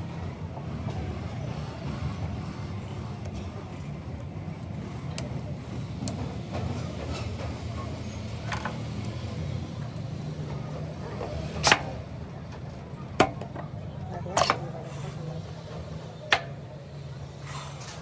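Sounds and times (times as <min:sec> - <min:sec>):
low mechanical drone: 0:00.0 - 0:18.0.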